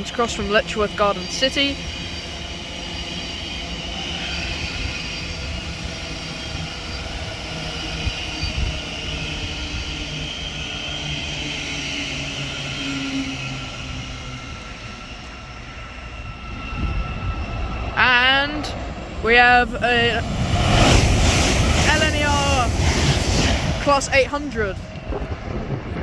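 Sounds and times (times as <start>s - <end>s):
electric train rumbling and whining: 0.0s - 26.0s.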